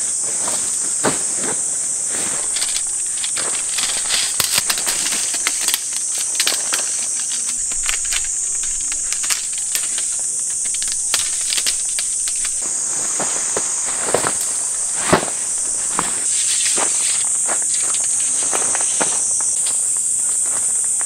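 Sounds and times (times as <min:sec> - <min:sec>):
insect chorus: 0:00.0 - 0:21.0
tent poles clicking and rustling: 0:00.1 - 0:21.0.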